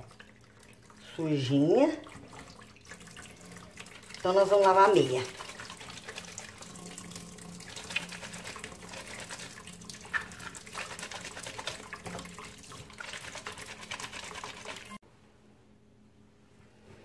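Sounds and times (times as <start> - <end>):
small splashes: 0.0 - 15.0
tap water running into sink: 0.0 - 15.0
sock scrubbed in soapy water: 0.9 - 15.0.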